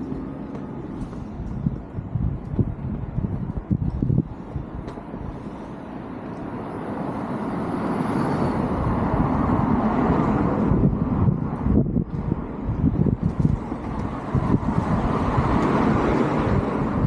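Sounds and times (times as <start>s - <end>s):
road vehicle passing: 0.0s - 17.0s.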